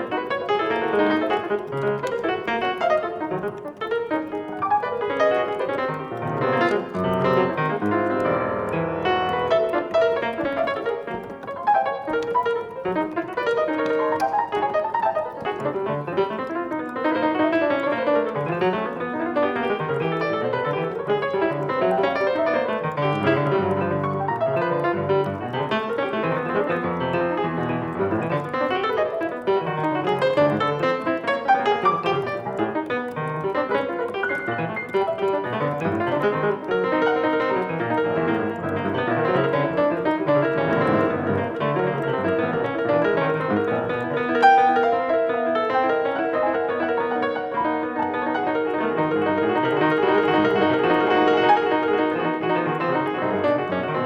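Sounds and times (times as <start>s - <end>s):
piano playing: 0.0s - 54.0s.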